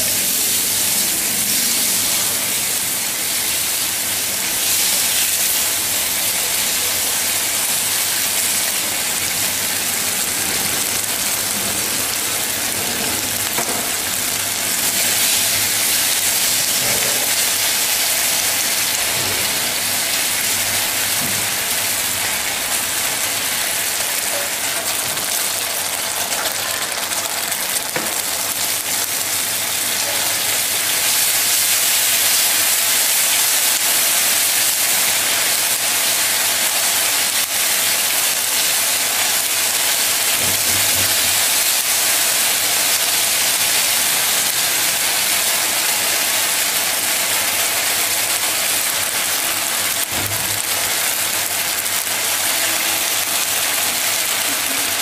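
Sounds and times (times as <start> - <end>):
pork sizzling in hot oil: 0.0 - 55.0.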